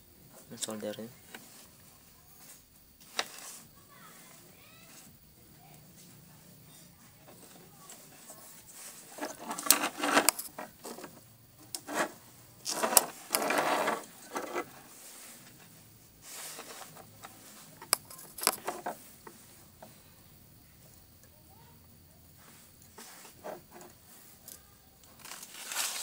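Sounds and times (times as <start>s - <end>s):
rustling and scraping: 0.3s - 20.2s, 20.8s - 26.0s.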